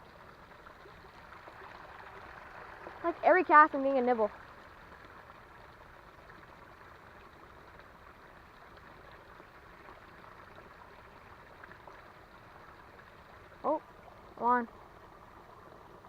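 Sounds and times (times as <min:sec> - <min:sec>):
running creek water: 0:00.0 - 0:16.0.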